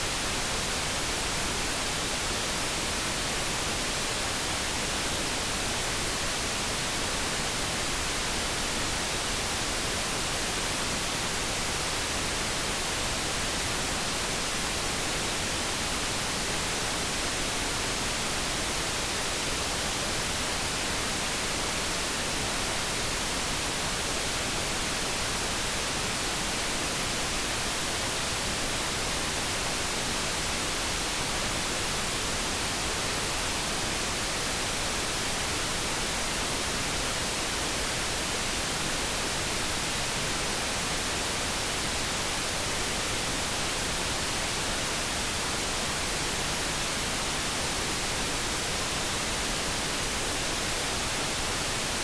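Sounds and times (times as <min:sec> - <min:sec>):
brown noise hiss: 0:00.0 - 0:52.0.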